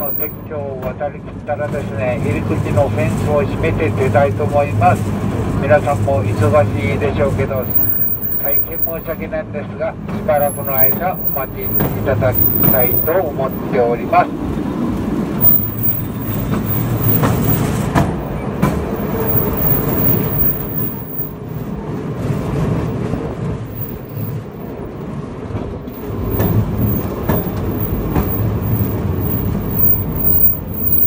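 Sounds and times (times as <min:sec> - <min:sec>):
wheels clicking on rails: 0:00.0 - 0:00.5, 0:01.6 - 0:09.2, 0:10.1 - 0:31.0
rail cart wheels rumbling: 0:00.0 - 0:31.0.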